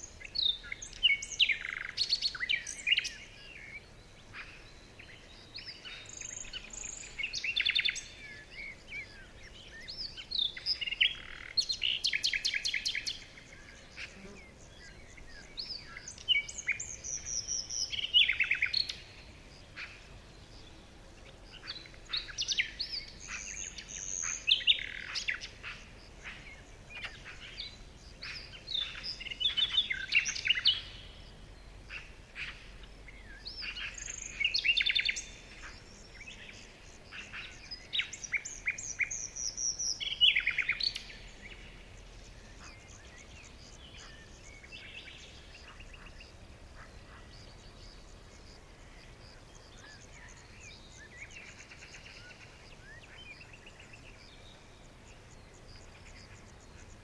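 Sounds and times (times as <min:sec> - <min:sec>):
faint steady hiss: 0:00.0 - 0:57.0
songbirds singing: 0:00.0 - 0:57.0.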